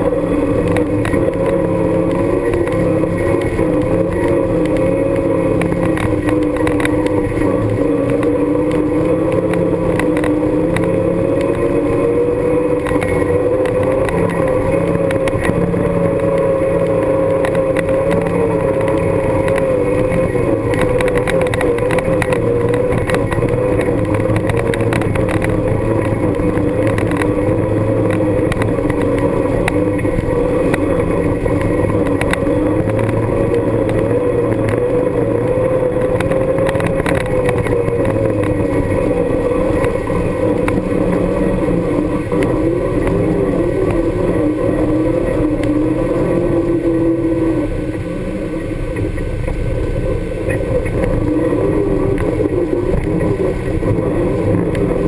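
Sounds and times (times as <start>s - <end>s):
knocks and rattles over rough ground: 0.0s - 55.0s
vehicle engine running: 0.0s - 55.0s.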